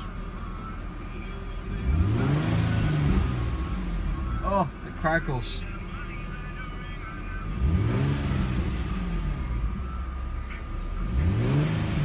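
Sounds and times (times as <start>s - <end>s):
car engine revving: 1.5s - 12.0s.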